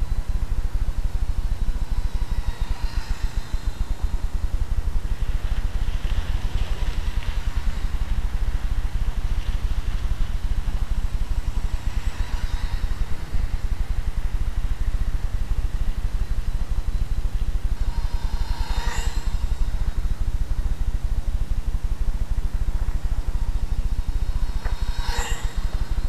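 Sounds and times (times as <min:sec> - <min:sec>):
low rumble on microphone: 0:00.0 - 0:26.0.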